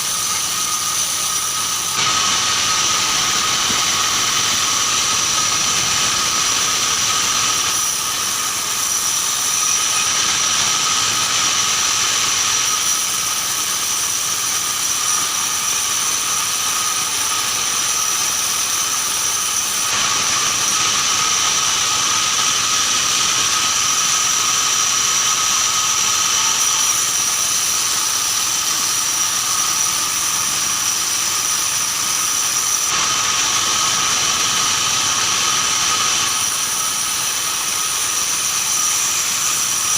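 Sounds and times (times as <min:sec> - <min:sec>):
band saw whining through timber: 0:00.0 - 0:39.9.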